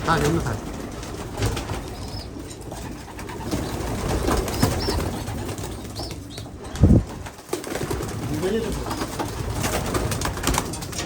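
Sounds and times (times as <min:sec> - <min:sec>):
pigeons cooing: 0:00.0 - 0:11.0
pigeons shuffling: 0:00.0 - 0:11.0.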